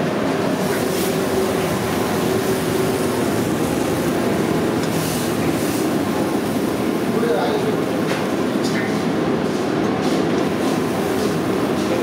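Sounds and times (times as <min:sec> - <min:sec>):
kitchen equipment roar: 0:00.0 - 0:12.0.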